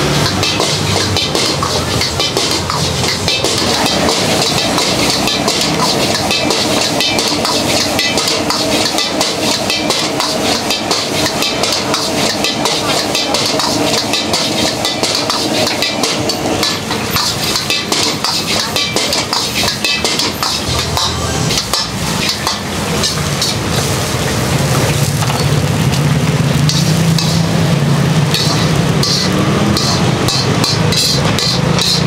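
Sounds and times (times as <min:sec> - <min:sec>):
metal ladle scraping a wok: 0:00.0 - 0:25.6, 0:26.2 - 0:32.0
gas burner: 0:00.0 - 0:32.0
rice sizzling in a pan: 0:00.0 - 0:32.0.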